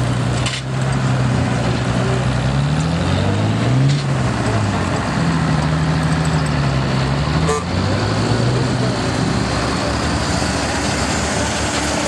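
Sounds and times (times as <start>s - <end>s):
snow machine engine passing: 0.0s - 12.0s.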